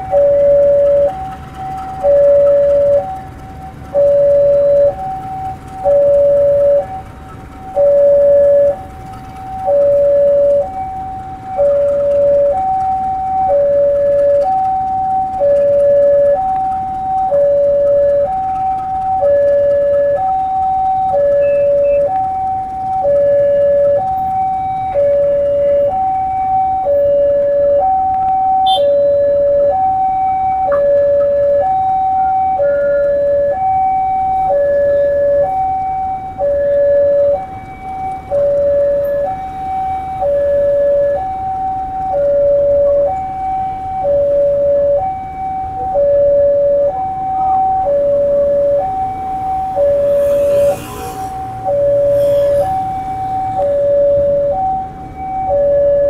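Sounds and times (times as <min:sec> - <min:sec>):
level crossing two-tone alarm: 0:00.0 - 0:56.0.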